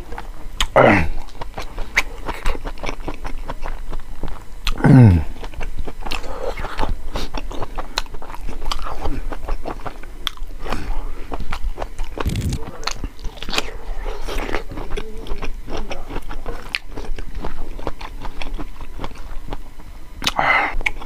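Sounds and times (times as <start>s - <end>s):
wet chewing and smacking: 0.1s - 21.0s.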